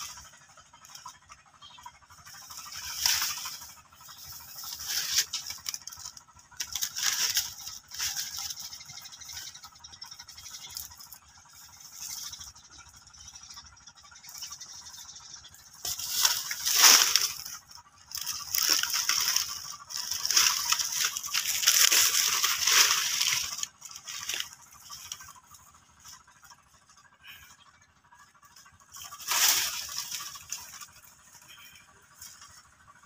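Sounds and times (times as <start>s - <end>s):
dry banana leaves rustling: 0.0s - 27.6s, 28.3s - 33.0s.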